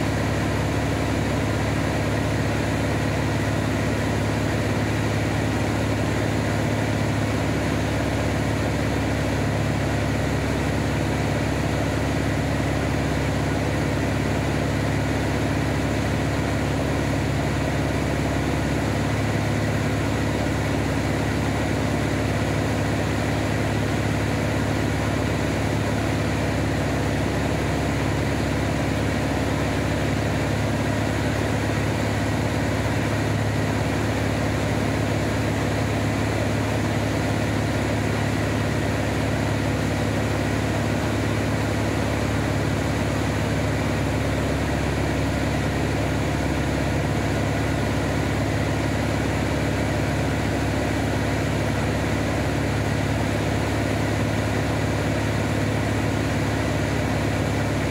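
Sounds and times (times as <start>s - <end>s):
propeller plane engine drone: 0.0s - 57.9s.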